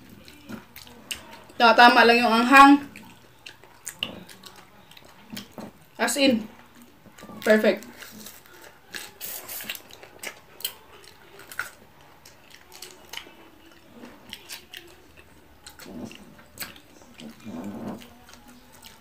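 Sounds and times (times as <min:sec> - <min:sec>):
chewing crisp vegetables: 0:00.0 - 0:19.0.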